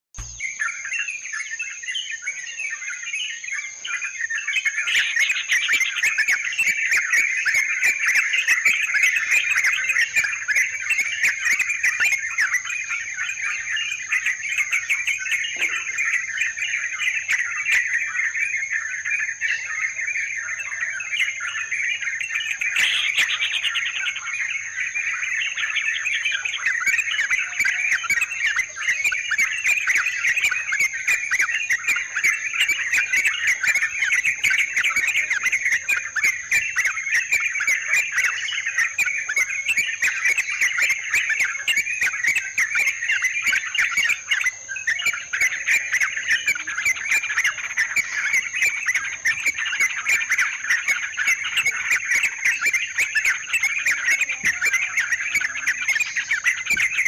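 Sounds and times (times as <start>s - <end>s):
bulbuls chattering: 0.2s - 57.0s.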